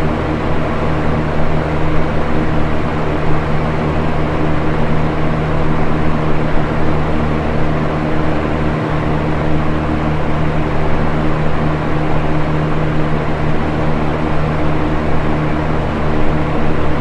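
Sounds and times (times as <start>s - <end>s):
fan air rushing: 0.0s - 17.0s
low motor hum: 0.0s - 17.0s.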